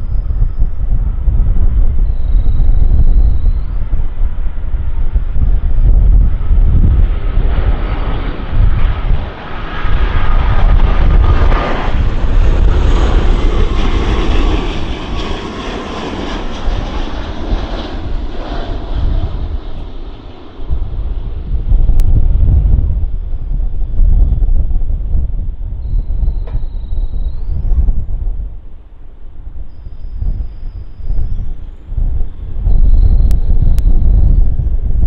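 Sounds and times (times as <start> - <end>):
jet airliner landing: 0.0 - 35.0
wind buffeting microphone: 0.0 - 35.0.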